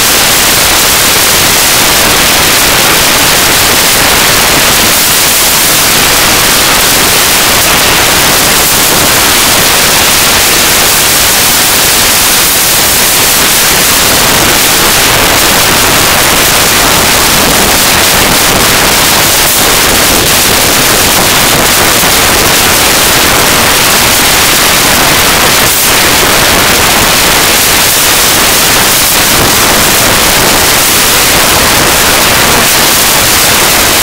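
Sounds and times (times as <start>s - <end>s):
wind noise on microphone: 0.0s - 34.0s.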